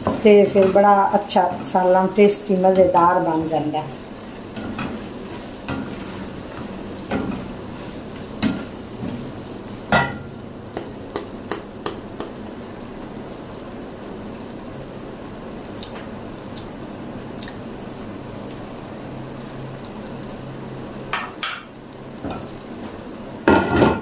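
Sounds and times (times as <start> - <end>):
curry sizzling in oil: 0.0 - 23.8.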